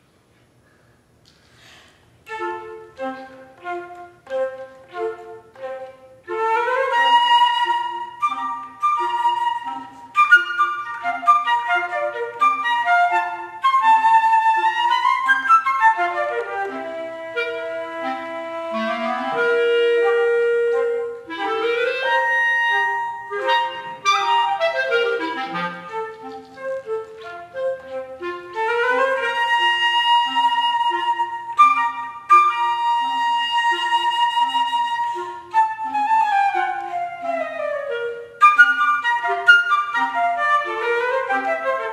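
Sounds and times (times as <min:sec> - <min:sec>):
flute and clarinet duet: 0:02.2 - 0:41.9.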